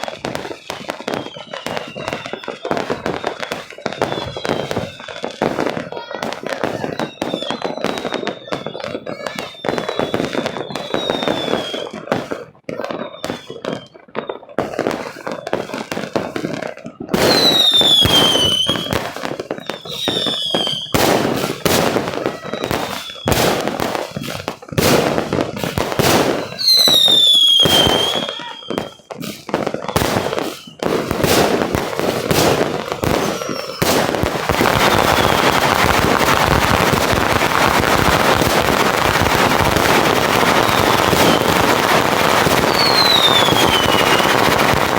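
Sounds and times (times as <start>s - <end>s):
firework whistles falling in pitch: 0.0s - 5.9s, 6.6s - 44.9s
dense firework crackling: 0.0s - 44.9s
firework bangs and pops: 0.0s - 44.9s.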